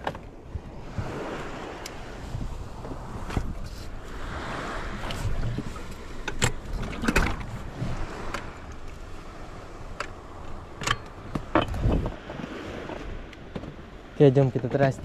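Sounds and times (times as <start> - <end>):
knocks and clacks on boat: 0.0 - 0.4, 2.7 - 4.1, 4.7 - 15.0
sea waves: 0.0 - 15.0
wind: 0.0 - 15.0.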